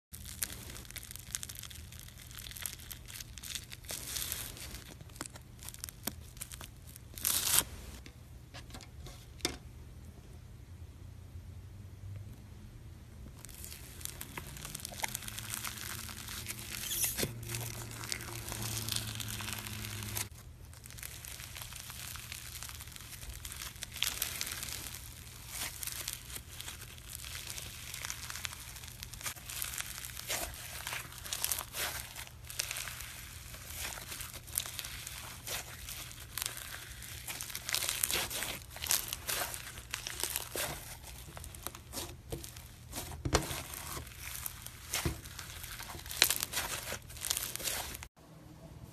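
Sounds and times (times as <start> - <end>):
slime crackling and crinkling: 0.1 - 9.5, 13.2 - 48.2
slime tearing: 0.2 - 7.8, 13.4 - 48.1.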